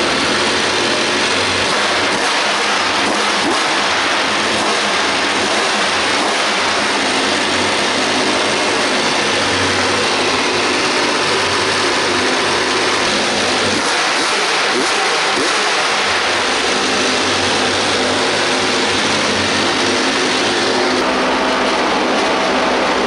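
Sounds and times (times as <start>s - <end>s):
racing engine running steadily: 0.0s - 23.0s.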